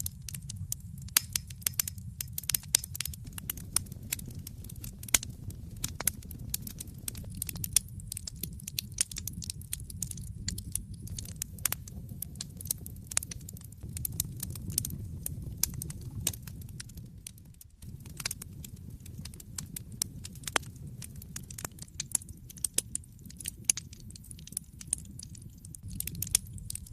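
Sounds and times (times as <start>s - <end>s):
low rumble of flames: 0.0s - 26.9s
wood fire crackling and popping: 0.0s - 26.9s.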